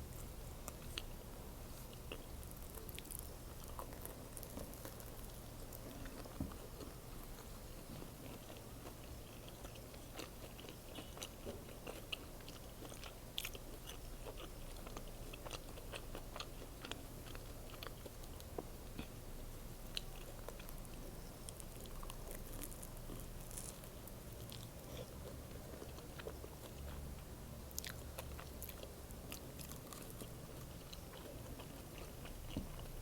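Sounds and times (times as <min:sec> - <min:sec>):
chewing sandwich: 0:00.1 - 0:33.0.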